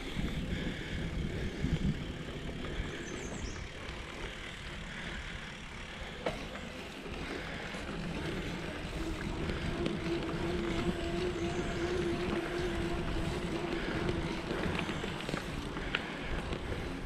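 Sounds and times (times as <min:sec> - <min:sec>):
tyres rolling on asphalt: 0:00.0 - 0:17.0.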